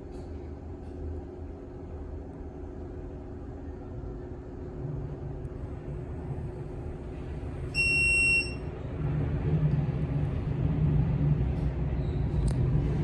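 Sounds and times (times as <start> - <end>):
elevator low hum: 0.0 - 13.0.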